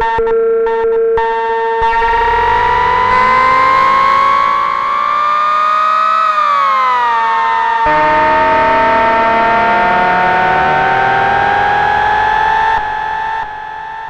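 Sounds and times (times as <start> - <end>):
synthesizer chord gliding in pitch: 1.8 - 14.0.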